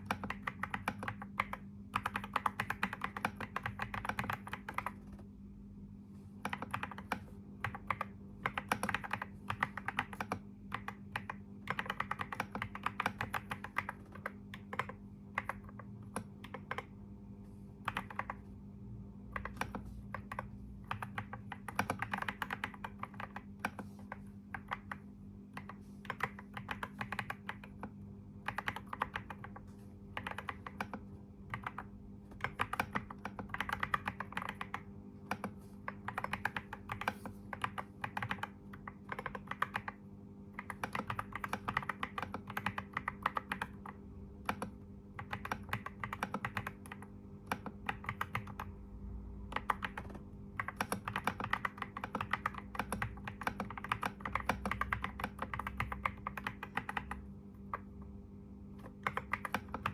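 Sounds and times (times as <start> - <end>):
typing on computer keyboard: 0.0 - 5.3, 6.4 - 17.0, 17.8 - 18.5, 19.3 - 48.8, 49.4 - 58.0, 58.8 - 59.9.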